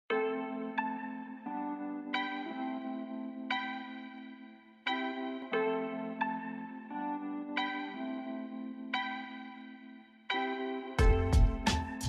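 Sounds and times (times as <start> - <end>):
soft keyboard chords: 0.1 - 12.0.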